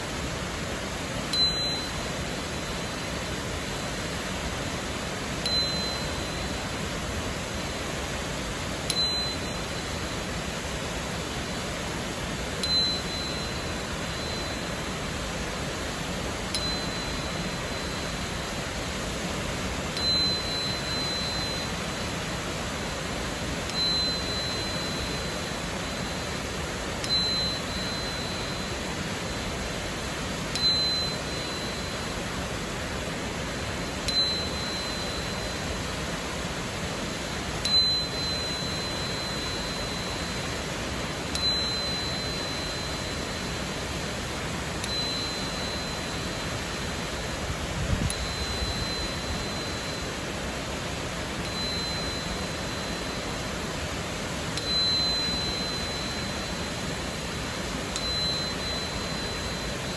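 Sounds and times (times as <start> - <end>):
crystal tuner ringing tone: 0.0 - 59.9.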